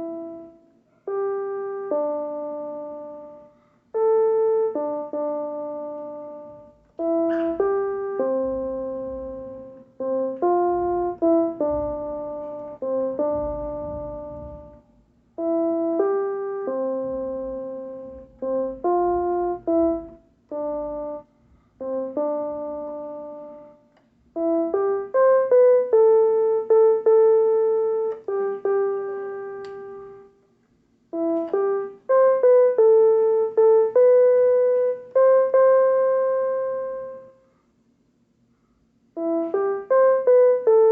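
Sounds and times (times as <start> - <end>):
keyboard playing hymn melody: 0.0 - 30.4, 31.1 - 37.4, 39.1 - 40.9.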